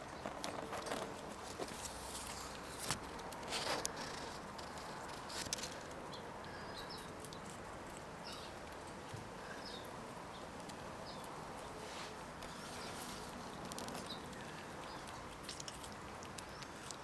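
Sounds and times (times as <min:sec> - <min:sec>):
squirrel gnawing crunches: 0:00.0 - 0:17.0.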